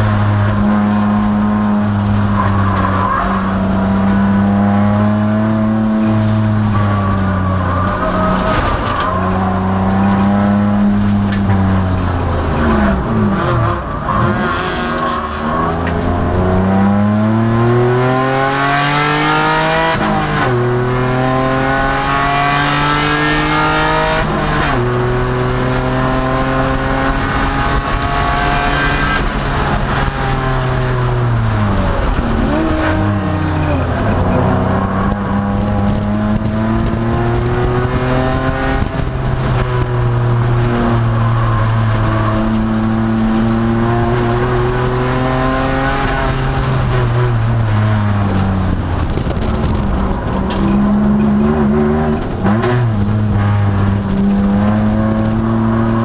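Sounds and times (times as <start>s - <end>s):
racing car engine revving: 0.0s - 56.0s.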